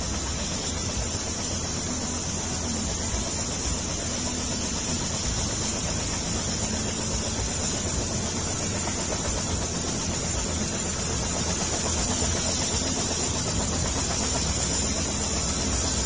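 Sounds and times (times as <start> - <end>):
helicopter running: 0.0 - 16.0.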